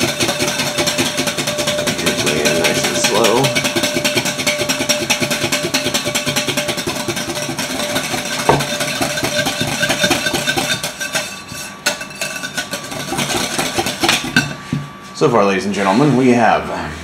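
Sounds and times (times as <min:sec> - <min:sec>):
whisk beating eggs in glass bowl: 0:00.0 - 0:14.5.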